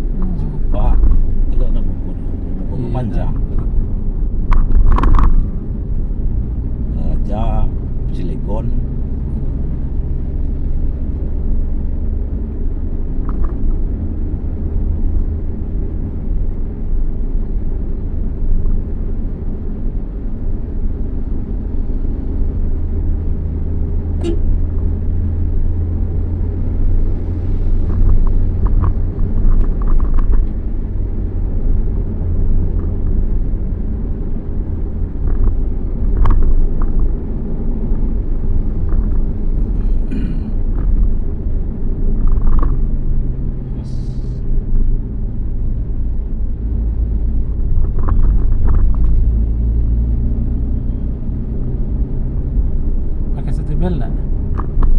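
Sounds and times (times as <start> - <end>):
car driving rumble: 0.0 - 54.9.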